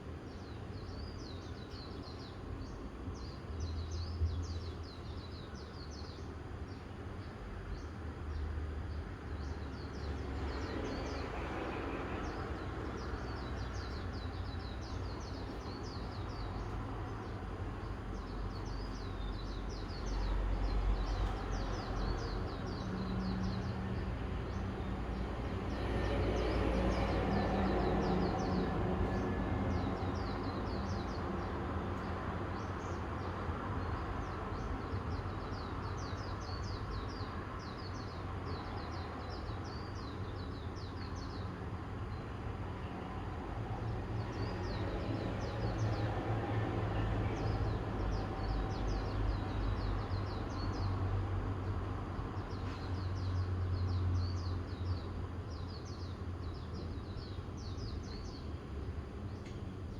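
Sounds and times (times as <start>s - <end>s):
small birds chirping: 0.0s - 42.3s, 46.9s - 51.0s, 52.4s - 59.9s
distant vehicle traffic rumble: 7.2s - 59.9s.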